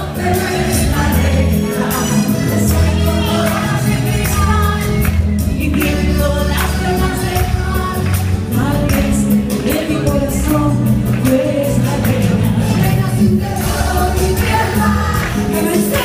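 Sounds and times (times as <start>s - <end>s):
women singing with a band: 0.0s - 16.0s.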